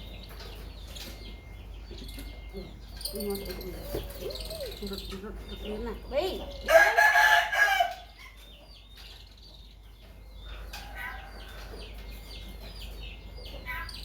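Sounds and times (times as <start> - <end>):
birds short high calls: 0.0 - 14.0.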